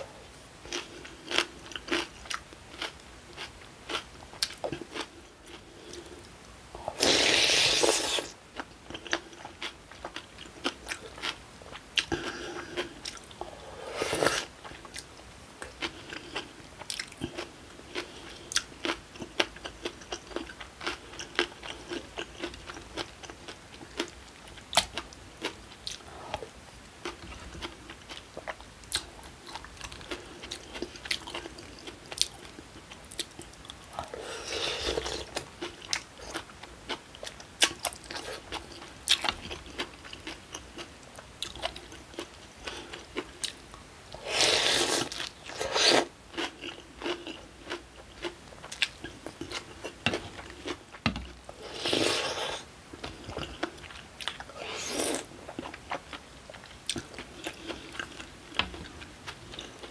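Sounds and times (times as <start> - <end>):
crunchy chewing: 6.9 - 59.9.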